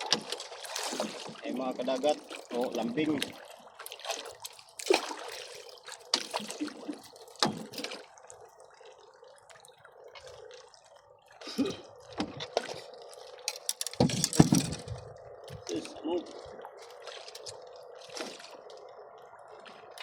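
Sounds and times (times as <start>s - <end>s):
water splashing and dripping: 0.0s - 20.0s.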